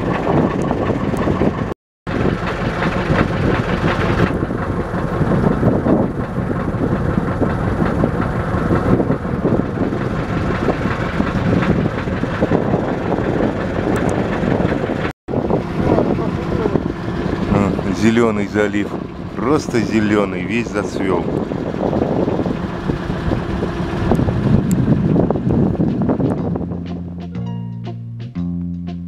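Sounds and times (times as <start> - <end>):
boat engine running: 0.0 - 27.6.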